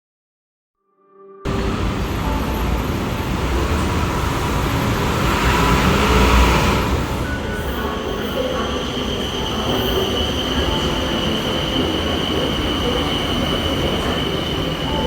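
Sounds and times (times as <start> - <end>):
train high-pitched whine: 1.5 - 15.0
train rumbling: 1.5 - 15.0.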